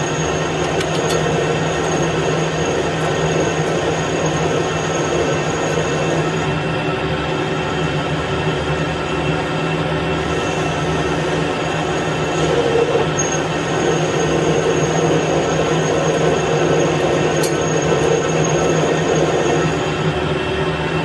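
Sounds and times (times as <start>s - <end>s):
metal lathe running: 0.0s - 21.0s
thin high whine: 0.0s - 21.0s.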